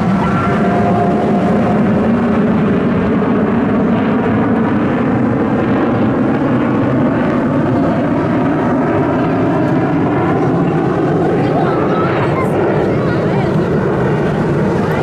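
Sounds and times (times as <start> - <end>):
jet engine howling flypast: 0.0 - 15.0.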